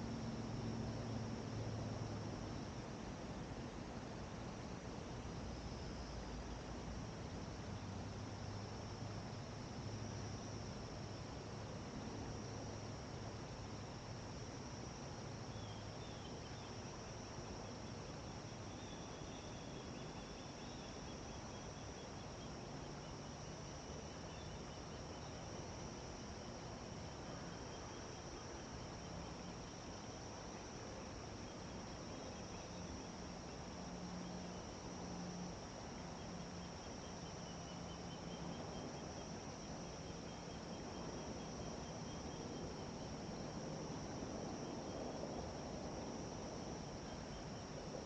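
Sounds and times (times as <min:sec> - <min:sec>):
insects trilling: 0:00.0 - 0:48.0
low hiss: 0:00.0 - 0:48.0.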